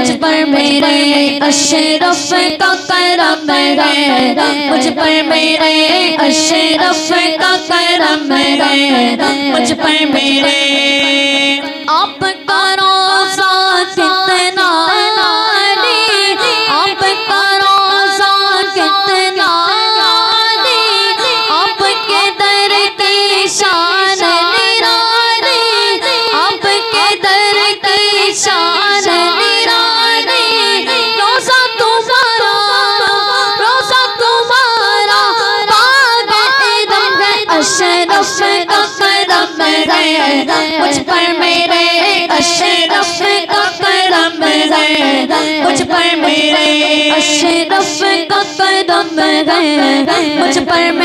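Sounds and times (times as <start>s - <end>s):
boys singing into microphones: 0.0s - 51.0s.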